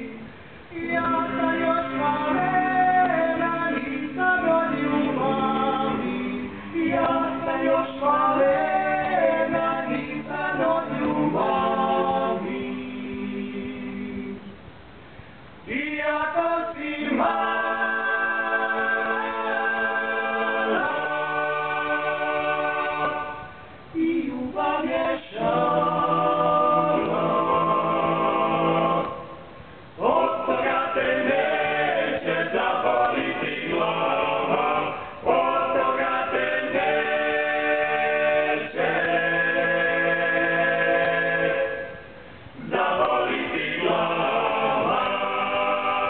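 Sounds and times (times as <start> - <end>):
male a cappella harmony singing: 0.0 - 14.6, 15.6 - 46.0.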